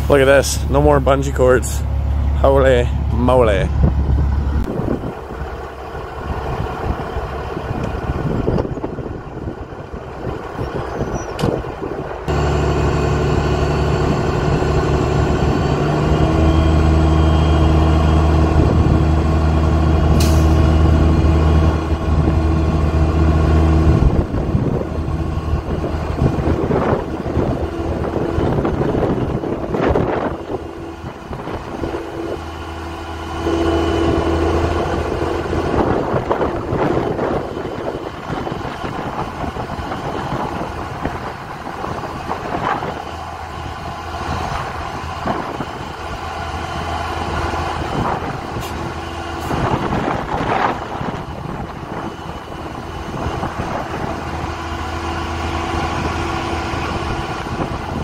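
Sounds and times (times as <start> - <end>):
diesel truck engine running hard: 0.0 - 58.0.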